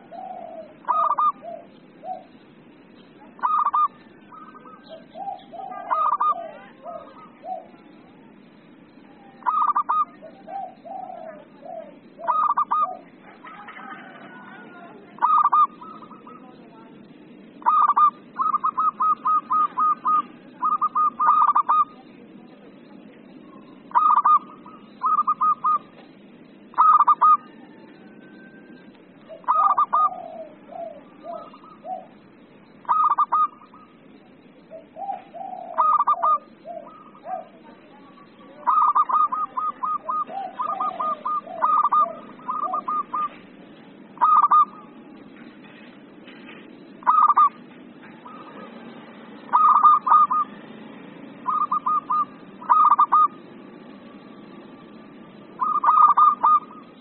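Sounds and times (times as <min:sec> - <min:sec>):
dove cooing: 0:00.0 - 0:22.3, 0:22.9 - 0:46.1, 0:46.9 - 0:57.0.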